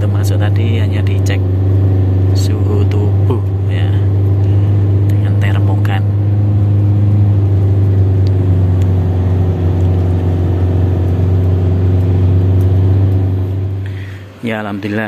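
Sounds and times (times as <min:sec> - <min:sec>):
van engine droning: 0:00.0 - 0:15.0.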